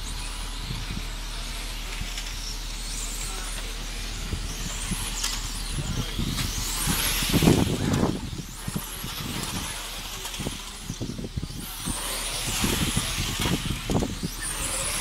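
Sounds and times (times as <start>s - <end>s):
electric motors whining: 0.0s - 15.0s
tyres hissing on asphalt: 0.0s - 15.0s.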